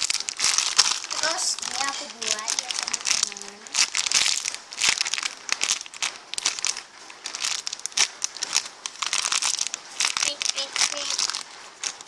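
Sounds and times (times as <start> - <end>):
crinkling of toy wrapping: 0.0 - 12.0.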